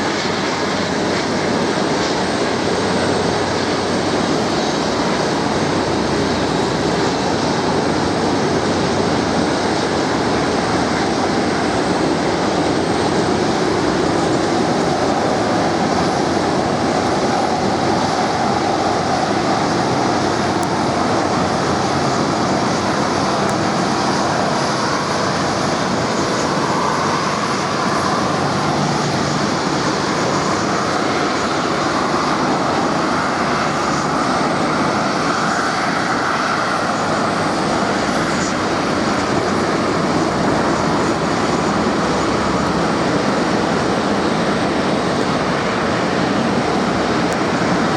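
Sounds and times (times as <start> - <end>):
jet engines roaring: 0.0 - 47.9
rising engine whine: 0.0 - 47.9.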